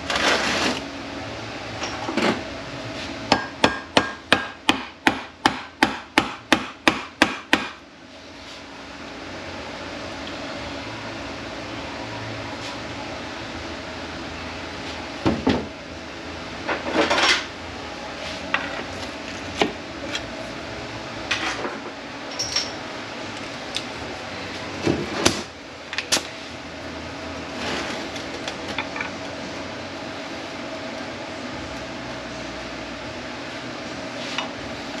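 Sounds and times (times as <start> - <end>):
steady shop hum: 0.0 - 35.0.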